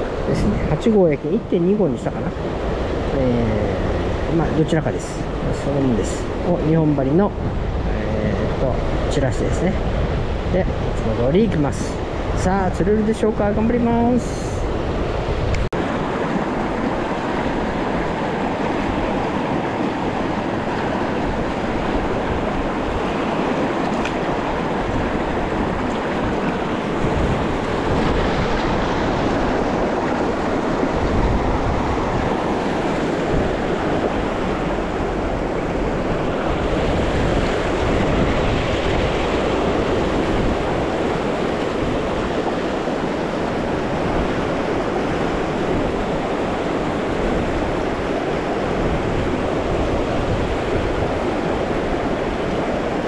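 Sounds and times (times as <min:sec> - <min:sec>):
river water rushing over riffle: 0:00.0 - 0:53.0.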